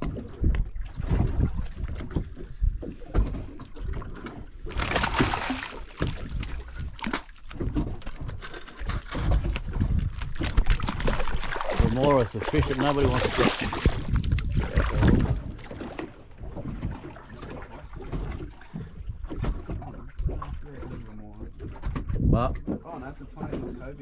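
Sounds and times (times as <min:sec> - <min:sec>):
water lapping against boat: 0:00.0 - 0:24.0.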